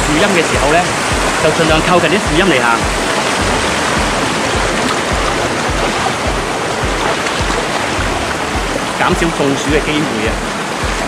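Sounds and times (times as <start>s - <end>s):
background music with low beat: 0.0s - 11.0s
water rushing over rocks: 0.0s - 11.0s.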